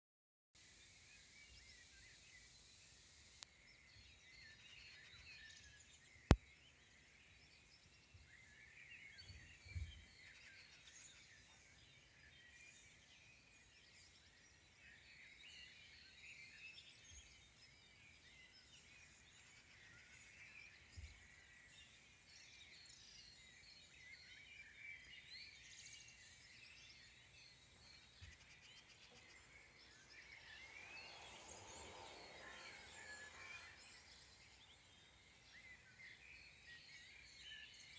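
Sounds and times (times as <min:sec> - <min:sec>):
songbirds chirping and trilling: 0:00.6 - 0:37.9.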